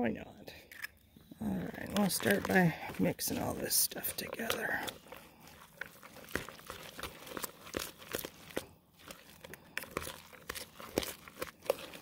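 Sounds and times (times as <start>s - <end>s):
wet mixing sounds: 0.7s - 12.0s.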